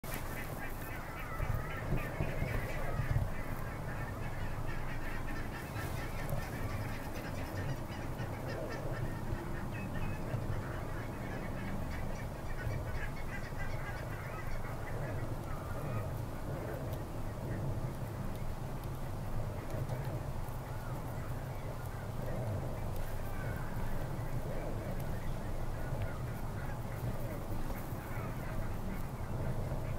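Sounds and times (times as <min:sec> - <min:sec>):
geese honking: 0:00.0 - 0:16.9, 0:19.8 - 0:29.9.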